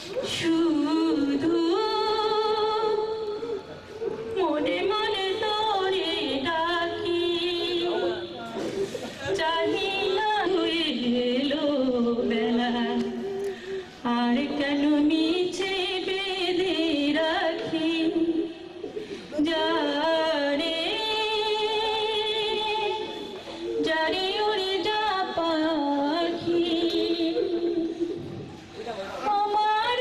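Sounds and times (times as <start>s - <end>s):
woman singing into a microphone: 0.0s - 28.6s, 29.2s - 30.0s.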